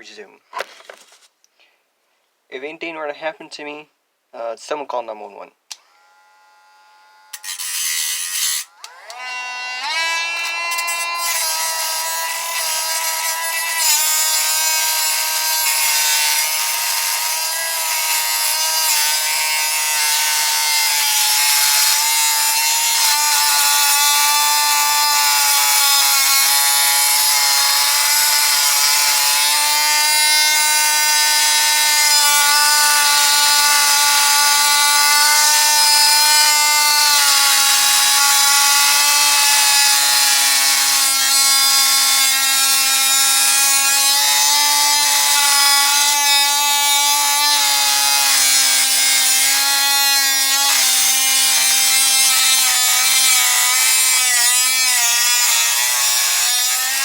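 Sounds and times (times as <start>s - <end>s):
rotary tool grinding metal: 5.8s - 57.0s.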